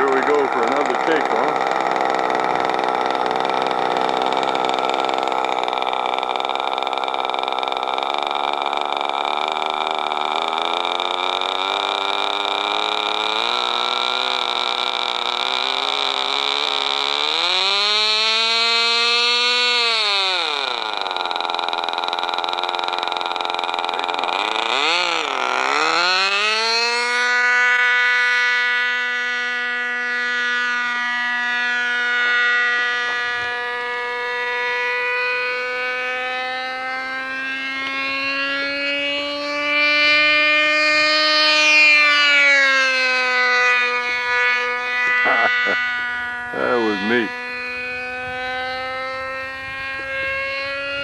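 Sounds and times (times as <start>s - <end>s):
model airplane motor and propeller: 0.0s - 51.0s.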